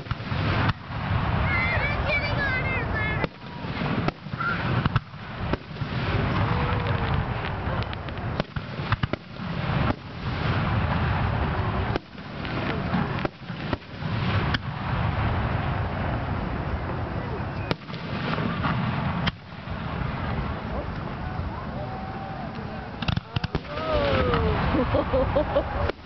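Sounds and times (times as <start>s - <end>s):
firework bangs: 0.0s - 26.0s.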